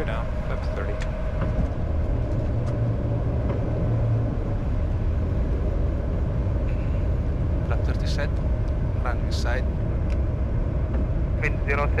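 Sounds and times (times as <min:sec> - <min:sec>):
cockpit airflow rumble: 0:00.0 - 0:12.0.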